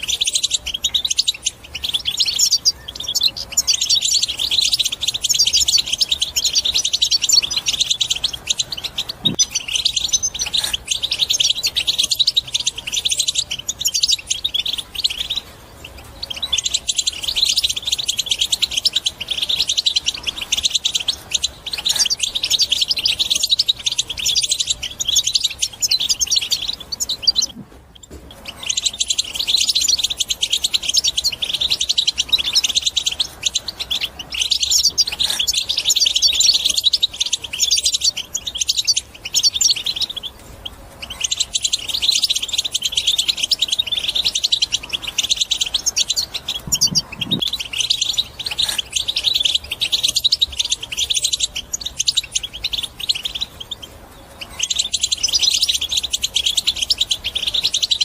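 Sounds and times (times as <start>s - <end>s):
goldfinch twittering song: 0.0s - 58.0s.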